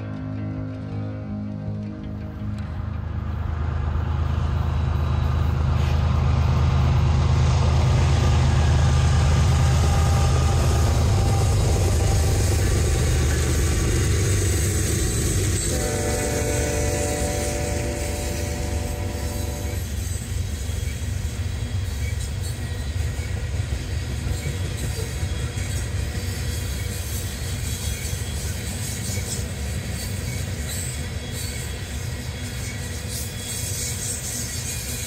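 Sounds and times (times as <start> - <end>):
diesel locomotive engine drone: 0.0 - 35.0
train cars rumbling on rails: 0.0 - 35.0.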